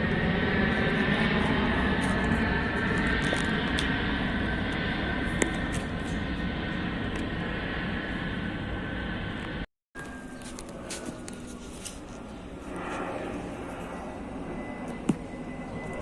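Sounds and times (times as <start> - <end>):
airplane engine with faint whine: 0.0 - 16.0.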